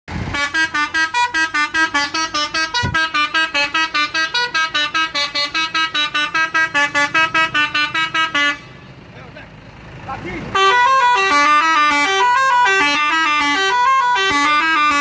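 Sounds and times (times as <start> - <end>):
multi-tone bus horn tune: 0.1 - 9.1, 10.5 - 15.0.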